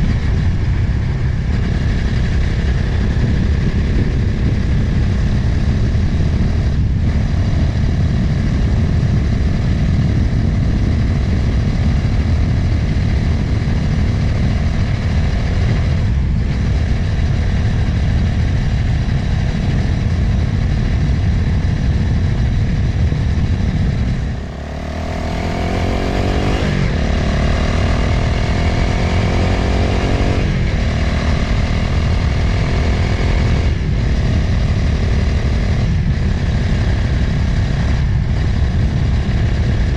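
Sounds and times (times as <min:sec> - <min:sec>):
motorcycle engine accelerating: 0:00.0 - 0:39.9
wind rushing over microphone: 0:00.0 - 0:39.9.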